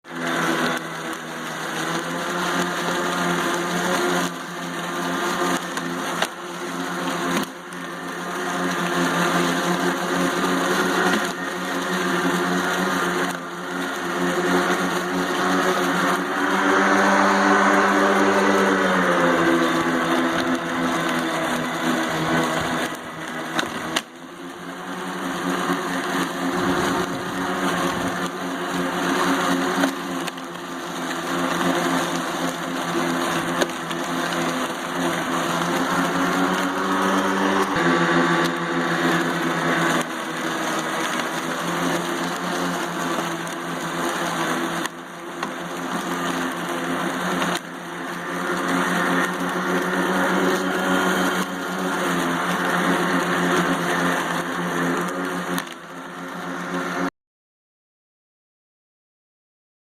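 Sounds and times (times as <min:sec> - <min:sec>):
electric lawn mower running: 0:00.0 - 0:57.1.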